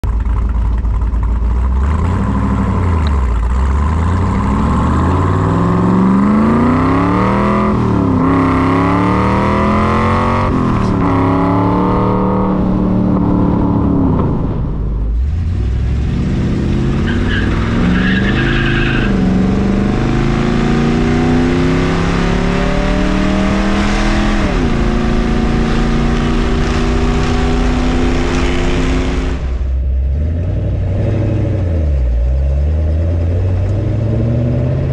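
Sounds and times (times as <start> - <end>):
car engine accelerating through gears: 0.3 - 34.9.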